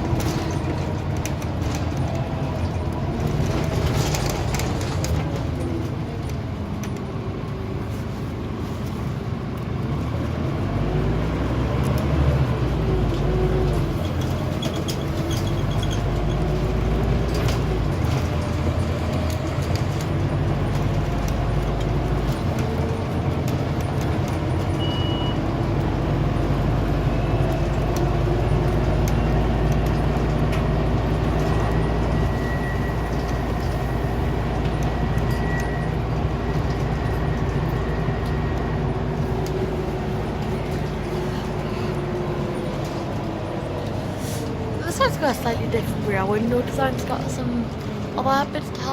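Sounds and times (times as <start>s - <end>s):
bus engine rumbling: 0.0s - 48.9s
clicks and rattles of bus body: 0.0s - 48.9s.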